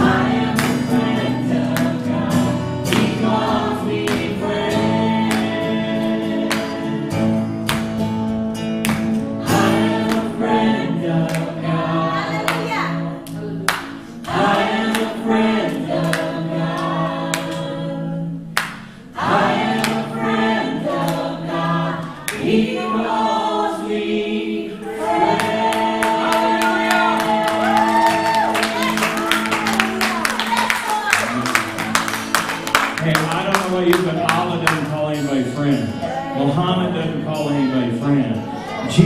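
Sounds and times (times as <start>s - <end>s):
voices singing together: 0.0s - 8.0s, 9.2s - 39.0s.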